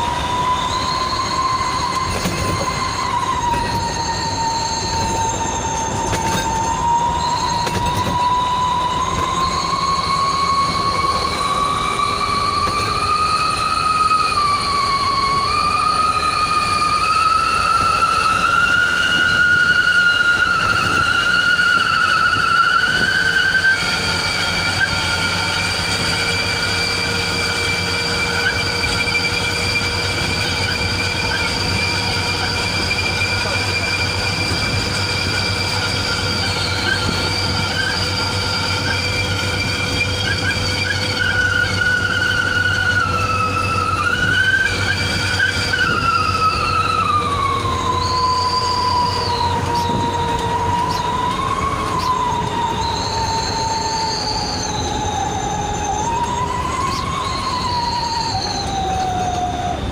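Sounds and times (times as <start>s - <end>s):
low engine drone: 0.0s - 59.9s
whistling truck exhaust: 0.0s - 59.9s.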